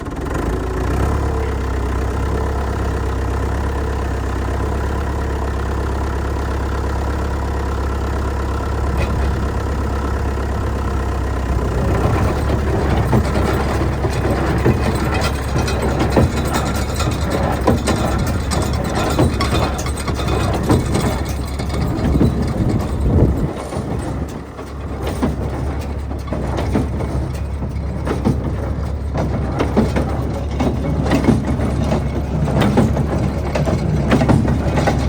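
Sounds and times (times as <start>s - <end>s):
tractor engine running: 0.0s - 35.0s
baler metal clatter: 6.4s - 35.0s.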